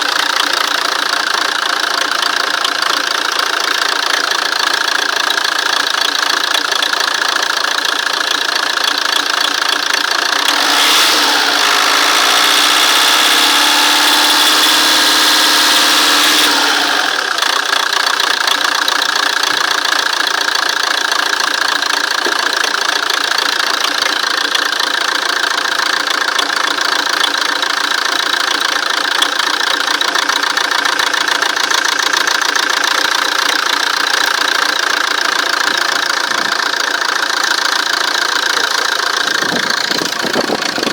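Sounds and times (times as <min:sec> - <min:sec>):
diesel engine idling with knock: 0:00.0 - 0:40.9.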